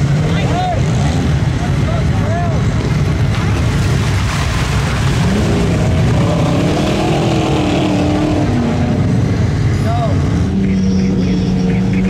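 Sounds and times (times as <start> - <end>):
tires spinning through mud: 0.0 - 12.0
truck engine revving: 0.0 - 12.0.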